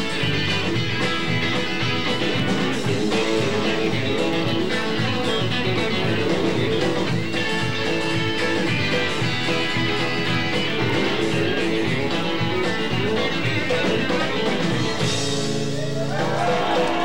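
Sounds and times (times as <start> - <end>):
acoustic guitars: 0.0 - 17.0
live band playing: 0.0 - 17.0.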